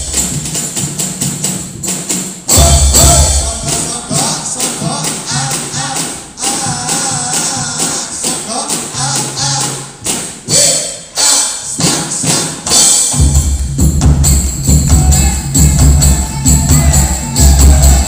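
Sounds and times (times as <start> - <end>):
frame drums and jingles: 0.0 - 10.7, 11.8 - 18.0
heavy low drum beat: 0.0 - 10.8, 11.8 - 18.0.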